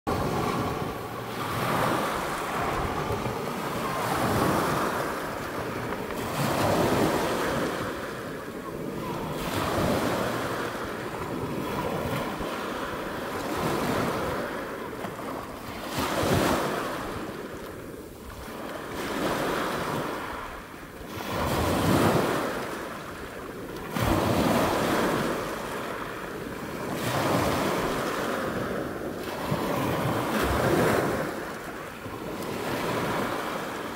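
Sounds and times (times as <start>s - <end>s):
waves breaking on pebble beach: 0.1s - 33.9s
wind buffeting microphone: 0.1s - 33.9s.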